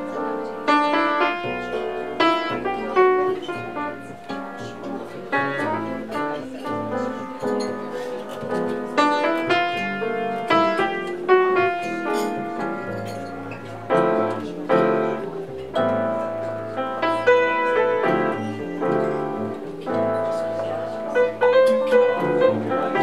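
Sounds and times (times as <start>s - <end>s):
jazz piano playing: 0.0s - 23.0s.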